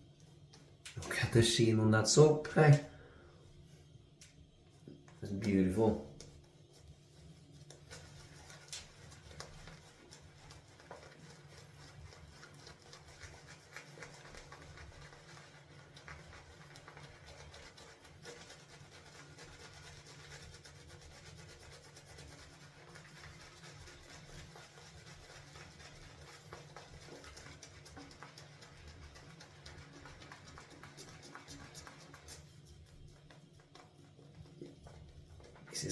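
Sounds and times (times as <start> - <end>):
shaving brush rubbing lather: 1.0 - 2.9, 5.2 - 35.9.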